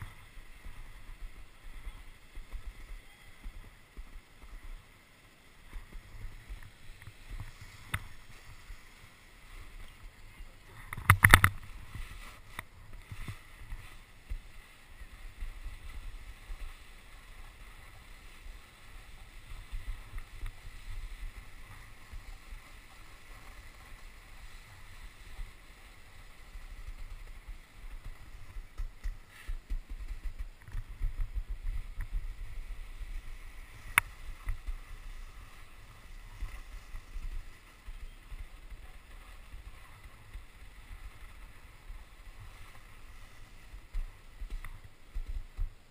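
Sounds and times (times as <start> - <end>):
snowboard swishing over slush: 5.6 - 10.9, 11.6 - 45.9.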